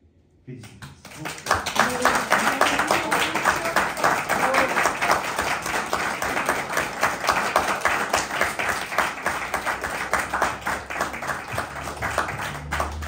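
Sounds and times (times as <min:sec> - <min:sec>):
people applauding: 0:00.6 - 0:13.0.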